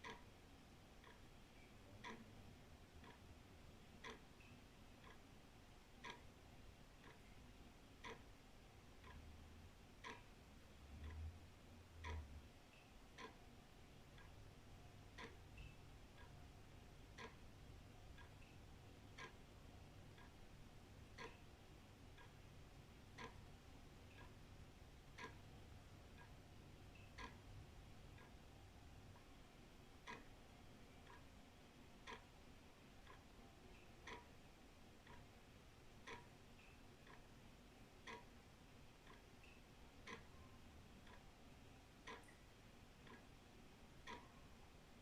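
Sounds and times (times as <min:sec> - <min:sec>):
wall clock ticking: 0:00.0 - 0:45.0.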